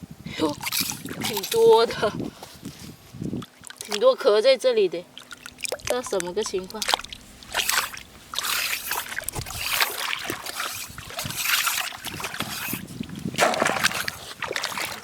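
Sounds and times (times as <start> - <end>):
shallow water splashing: 0.6 - 2.8, 3.4 - 15.0.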